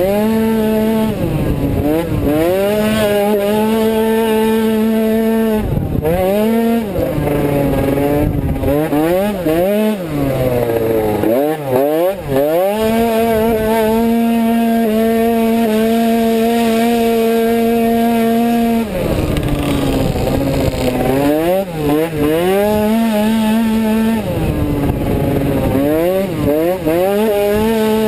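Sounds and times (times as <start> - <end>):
two-stroke scooter engine revving: 0.0 - 28.0.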